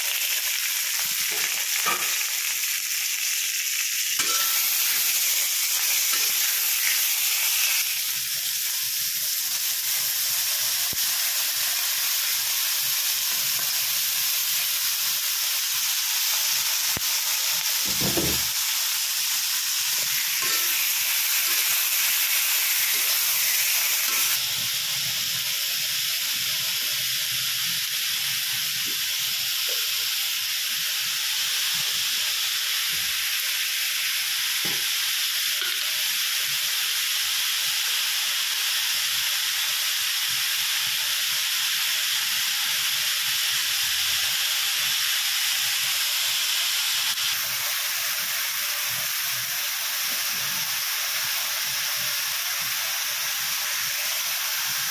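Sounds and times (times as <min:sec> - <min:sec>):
vegetables sizzling in a wok: 0:00.0 - 0:54.9.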